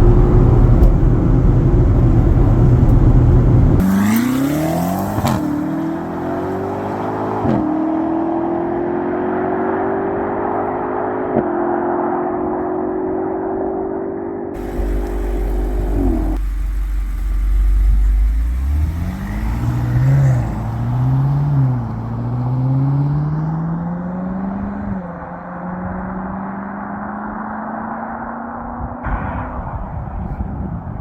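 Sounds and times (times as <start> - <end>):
car engine accelerating: 0.0 - 12.6, 14.6 - 29.4.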